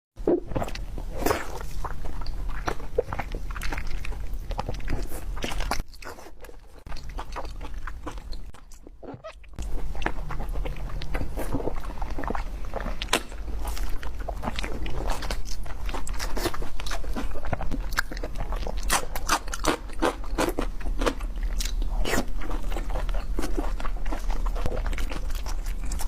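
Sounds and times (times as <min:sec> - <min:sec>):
food being chewed crunching: 0:00.3 - 0:26.0.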